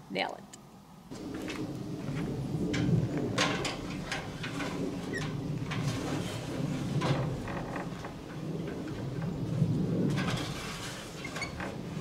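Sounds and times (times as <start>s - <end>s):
wooden knocks and creaks: 1.2s - 12.0s.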